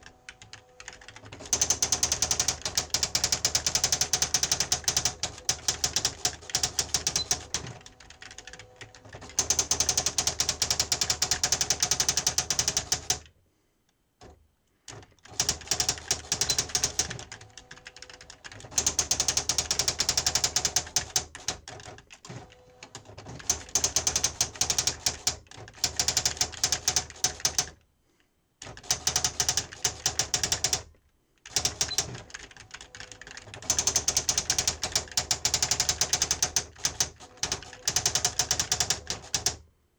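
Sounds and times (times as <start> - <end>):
electronic typewriter clattering: 0.0 - 13.3, 14.9 - 27.8, 28.6 - 30.9, 31.5 - 39.6.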